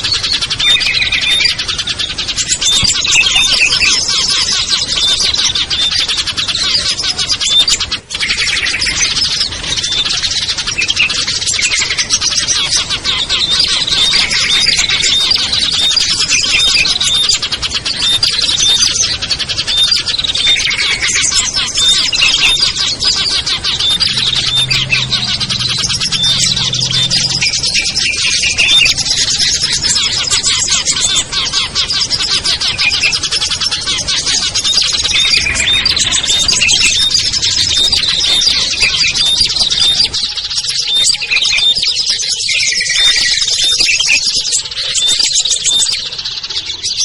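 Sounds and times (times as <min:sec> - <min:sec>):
many small songbirds chirping: 0:00.0 - 0:47.0.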